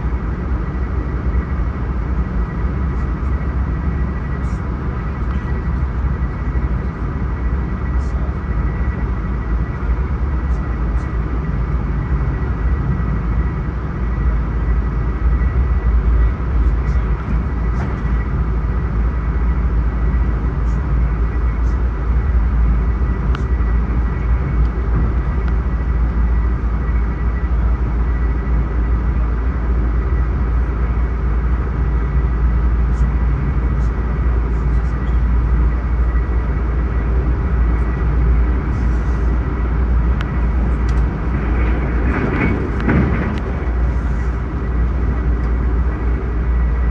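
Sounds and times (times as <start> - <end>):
thin steady whine: 0.0 - 46.9
train rumble: 0.0 - 46.9.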